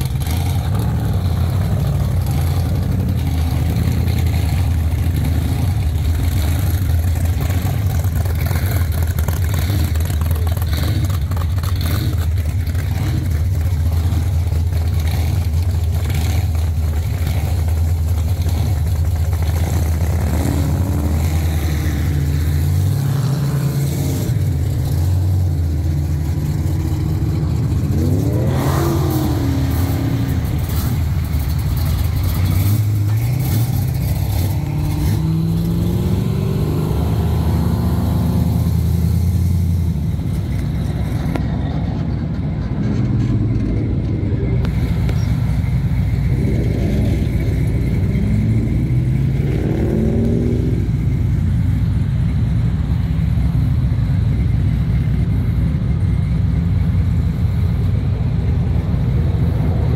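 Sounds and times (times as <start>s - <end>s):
muscle car engines revving: 0.0s - 59.9s.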